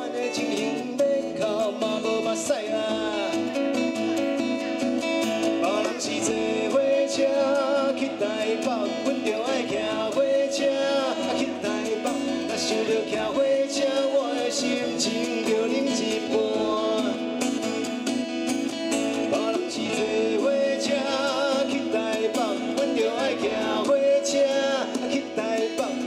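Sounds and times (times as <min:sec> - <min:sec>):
man singing into a microphone: 0:00.0 - 0:17.9, 0:19.1 - 0:26.0
acoustic guitar strumming: 0:00.0 - 0:26.0.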